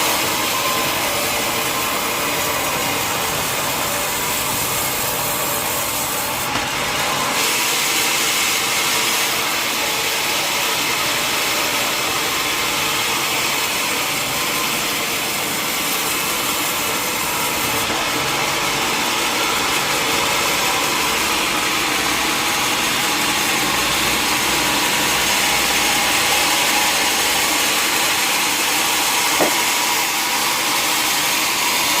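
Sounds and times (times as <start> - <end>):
sawmill machinery running: 0.0 - 32.0.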